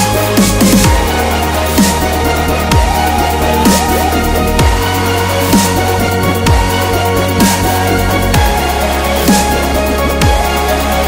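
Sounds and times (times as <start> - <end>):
electronic dance music: 0.0 - 11.0
falling pitch sweeps: 0.8 - 10.2.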